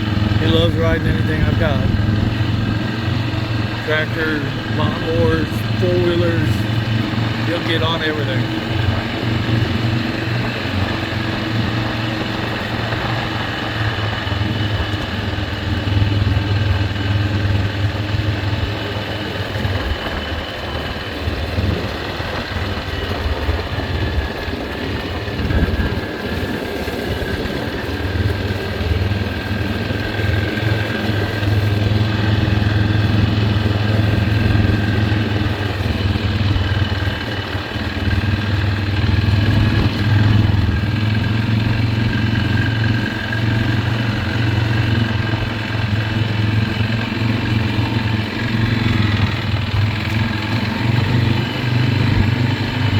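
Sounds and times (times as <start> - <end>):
riding lawn mower engine running: 0.0 - 52.9.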